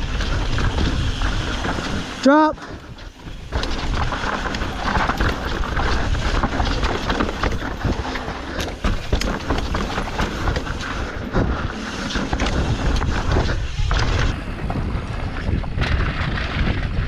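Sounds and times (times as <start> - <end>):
bike rattling and clattering: 0.0 - 17.0
bike tyres crunching over rock: 0.0 - 17.0.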